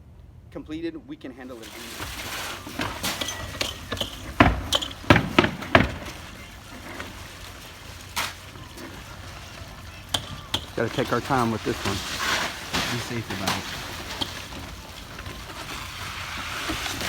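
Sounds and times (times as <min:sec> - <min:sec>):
nailing on shingle roof: 0:02.3 - 0:17.0.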